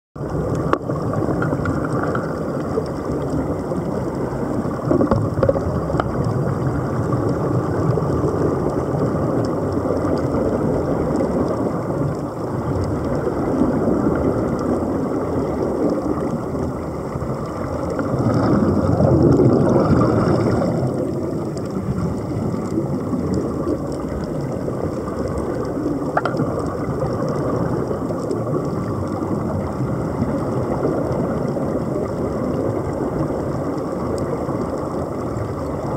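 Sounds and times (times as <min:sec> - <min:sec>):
underwater air bubbling: 0:00.2 - 0:35.9.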